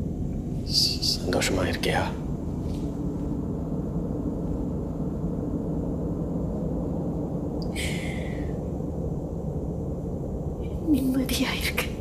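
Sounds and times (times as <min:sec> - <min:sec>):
faint hum: 0:00.0 - 0:12.0
low rumble: 0:00.0 - 0:12.0.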